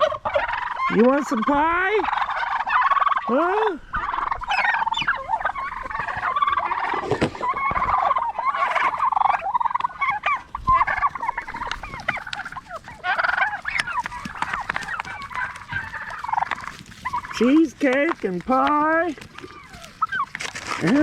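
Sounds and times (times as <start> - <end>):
turkeys gobbling: 0.0 - 21.0.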